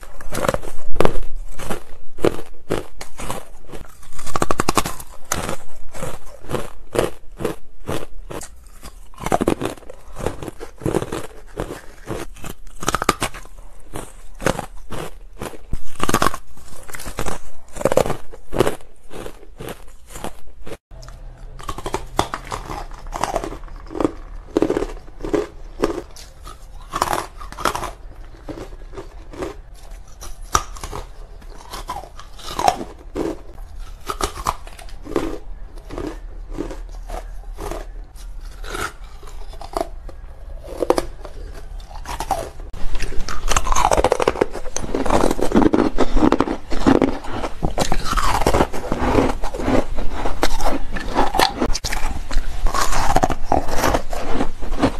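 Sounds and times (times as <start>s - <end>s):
crisp crunching of chewed ice: 0.0s - 54.9s.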